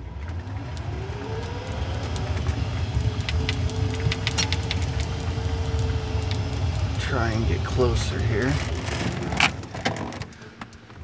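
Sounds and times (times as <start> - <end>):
electric motor whine: 0.0 - 9.7
vehicle rumble on pavement: 0.0 - 11.0.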